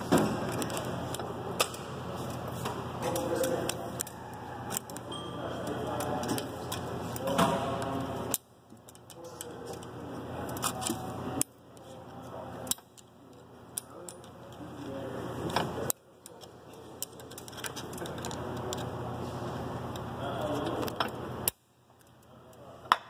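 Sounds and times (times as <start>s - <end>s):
metallic clicks and scrapes: 0.0s - 19.0s.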